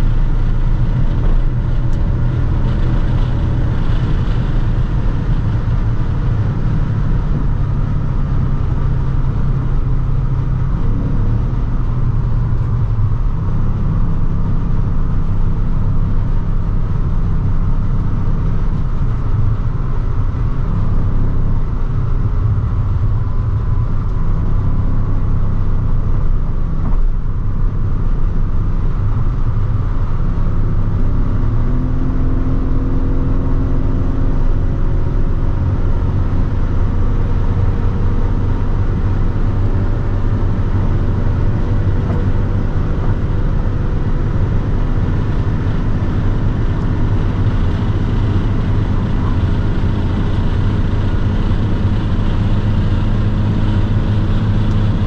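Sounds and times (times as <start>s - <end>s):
car engine droning: 0.0s - 55.0s
road and wind noise: 0.0s - 55.0s.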